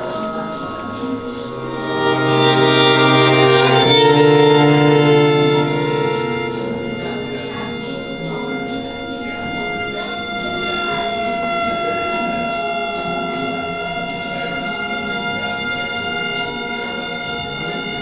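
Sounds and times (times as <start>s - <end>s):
string quartet playing held chords: 0.0s - 18.0s.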